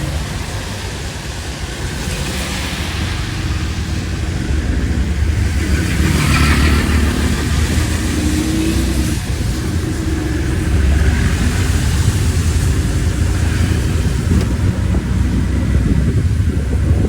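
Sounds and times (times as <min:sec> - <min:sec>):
vehicle interior road rumble: 0:00.0 - 0:17.0.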